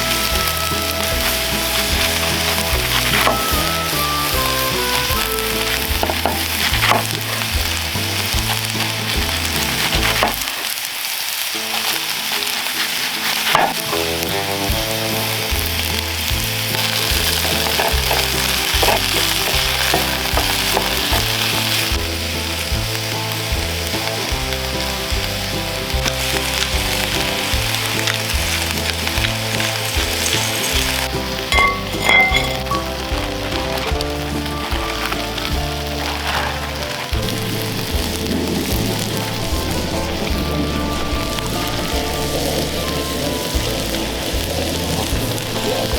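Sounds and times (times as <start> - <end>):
background music: 0.0 - 10.5, 11.4 - 45.9
food sizzling over fire: 0.0 - 45.9.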